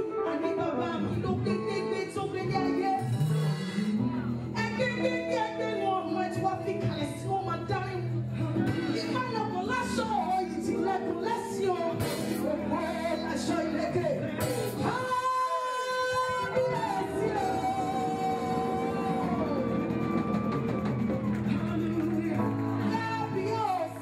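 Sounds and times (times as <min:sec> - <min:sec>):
woman singing gospel: 0:00.0 - 0:03.2, 0:04.5 - 0:20.3, 0:21.5 - 0:24.0
backing music: 0:00.0 - 0:24.0.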